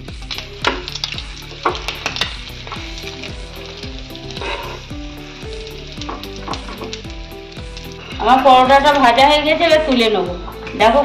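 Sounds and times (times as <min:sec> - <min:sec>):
flatbread sizzling on griddle: 0:00.0 - 0:11.0.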